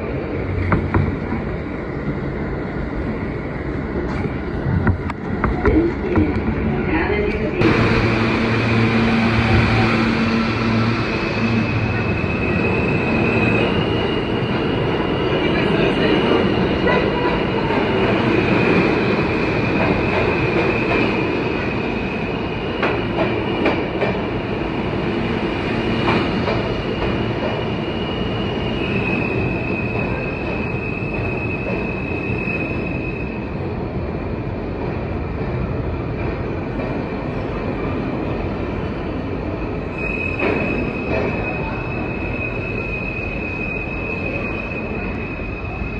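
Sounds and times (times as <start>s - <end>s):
subway train wheels rumbling on rail: 0.0s - 45.9s.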